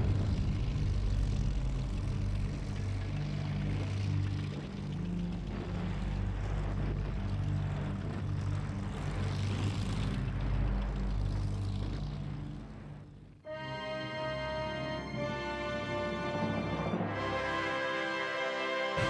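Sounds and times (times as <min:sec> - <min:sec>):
music: 0:00.0 - 0:19.0
tanks engine drone: 0:00.0 - 0:19.0.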